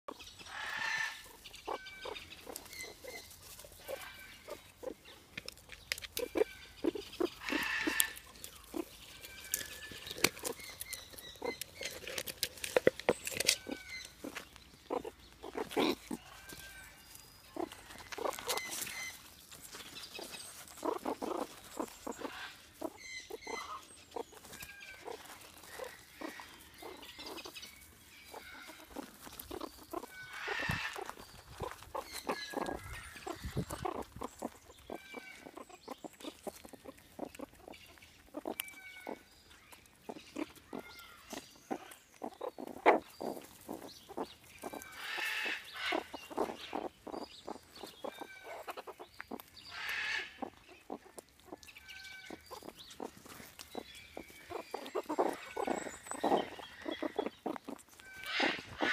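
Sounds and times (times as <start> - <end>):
meerkats chirping: 0.1 - 58.9
paws scratching on wood chips: 0.1 - 58.9
meerkats grunting: 6.2 - 10.7, 11.4 - 19.2, 20.2 - 39.3, 40.1 - 58.9.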